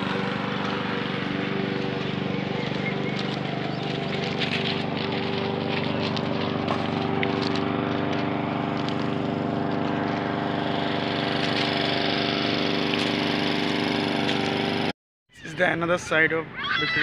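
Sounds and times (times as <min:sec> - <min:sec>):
engine humming steadily: 0:00.0 - 0:14.9.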